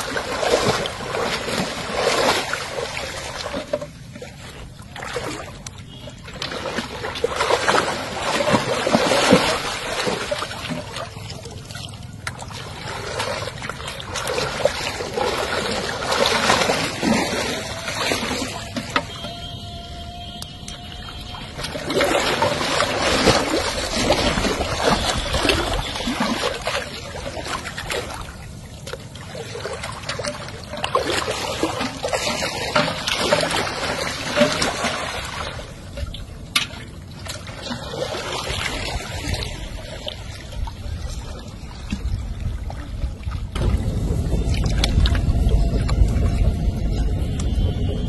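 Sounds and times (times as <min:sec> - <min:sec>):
water trickling and splashing: 0:00.0 - 0:48.0.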